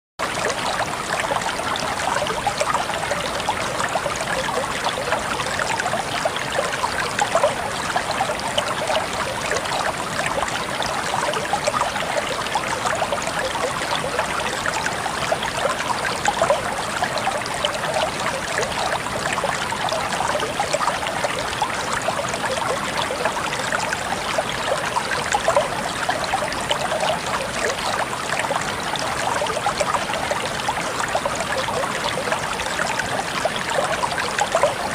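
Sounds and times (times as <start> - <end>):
water flowing with small splashes: 0.2 - 34.9.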